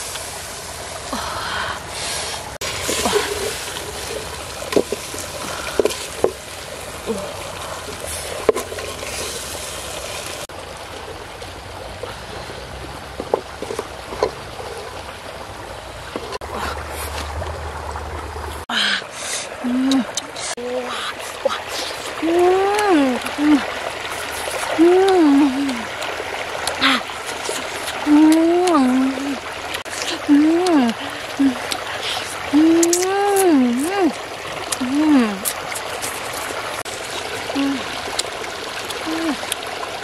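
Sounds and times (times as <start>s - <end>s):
running water trickling: 0.0s - 40.0s.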